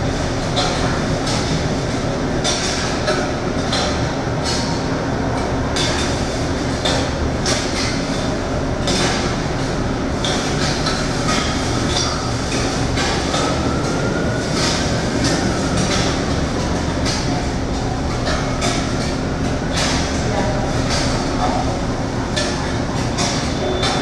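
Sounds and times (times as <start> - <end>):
steady rumbling noise: 0.0 - 24.0.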